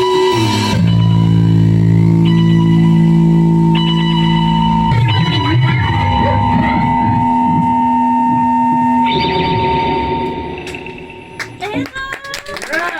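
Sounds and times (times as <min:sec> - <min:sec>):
rock music with electric guitar: 0:00.0 - 0:11.6.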